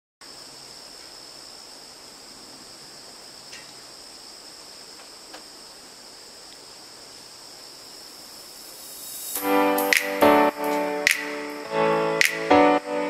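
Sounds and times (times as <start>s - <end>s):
faint even hiss: 0.2s - 13.0s
insects trilling: 0.2s - 13.0s.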